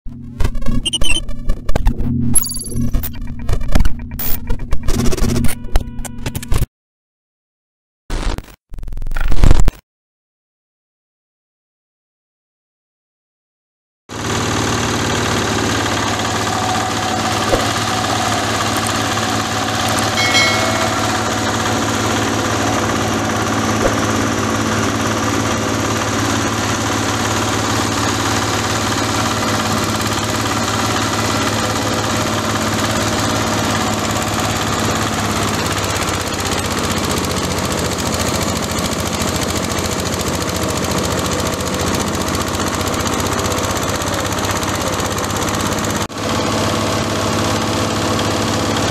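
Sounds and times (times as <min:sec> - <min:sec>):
chopper engine running: 0:00.1 - 0:06.5, 0:14.1 - 0:48.9.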